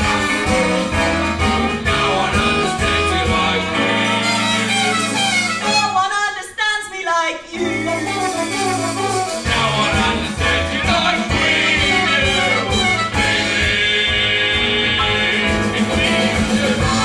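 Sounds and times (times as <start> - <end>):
band playing show tune: 0.0 - 6.1, 7.6 - 17.0.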